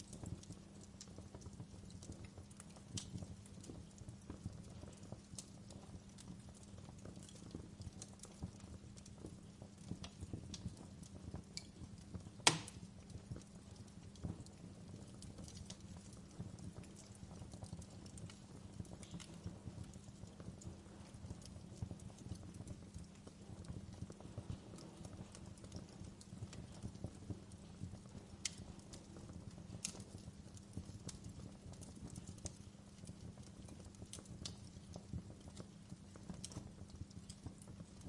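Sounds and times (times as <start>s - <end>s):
loud fire pops: 0.0s - 38.0s
low fire rumble: 0.0s - 38.0s
wood fire crackling: 0.0s - 38.0s.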